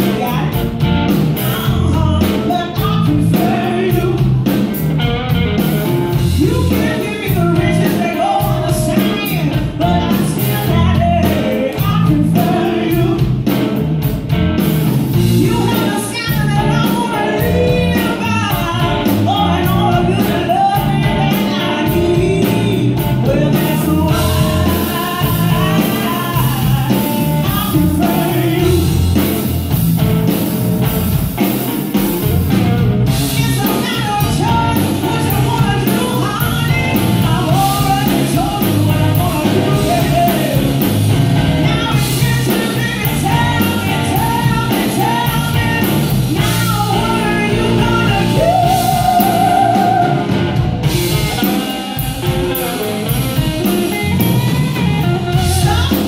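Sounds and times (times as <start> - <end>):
woman singing: 0.0 - 4.8, 6.1 - 13.8, 15.1 - 29.4, 33.1 - 54.0, 54.7 - 56.0
bass guitar: 0.0 - 56.0
drum kit: 0.0 - 56.0
electric guitar: 0.0 - 56.0.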